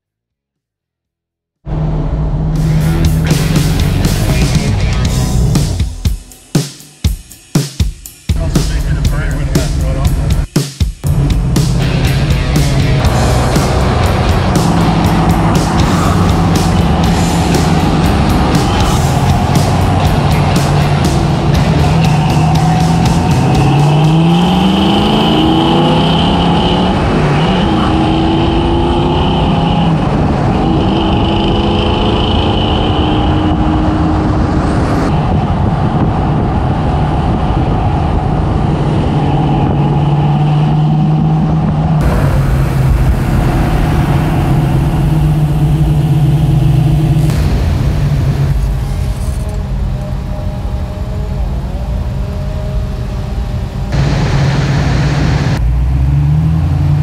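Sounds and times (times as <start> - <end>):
car engine revving: 1.7 - 6.9, 8.3 - 57.0.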